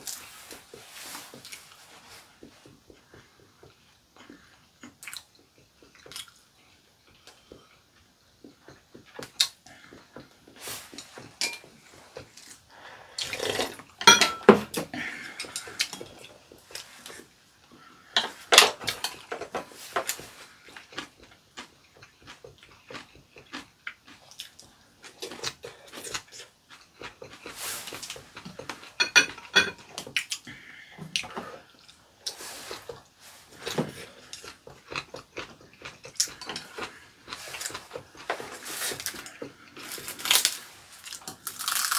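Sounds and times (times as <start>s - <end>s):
wet chewing and slurping: 0.0s - 14.1s, 15.0s - 41.9s.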